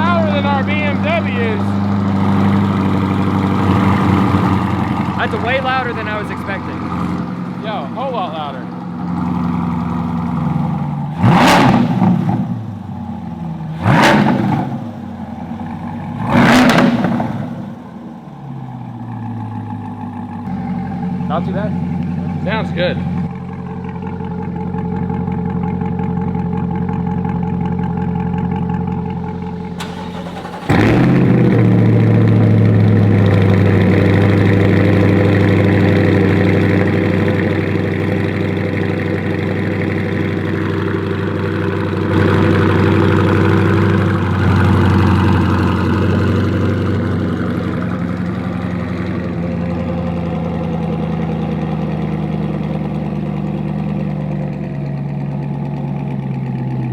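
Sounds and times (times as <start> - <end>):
car engine idling deep drone: 0.0 - 56.9.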